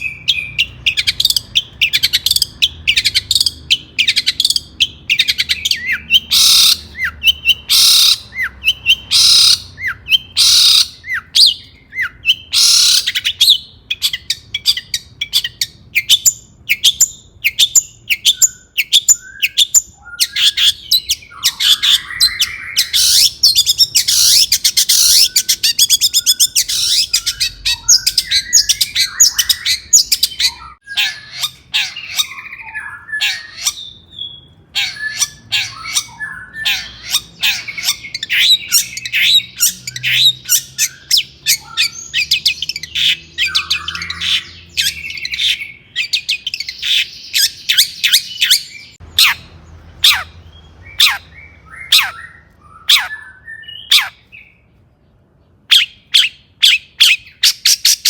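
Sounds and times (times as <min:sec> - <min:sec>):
bird singing sharp chirps: 0:00.0 - 0:54.7
harsh rasping bird calls: 0:00.0 - 0:54.7.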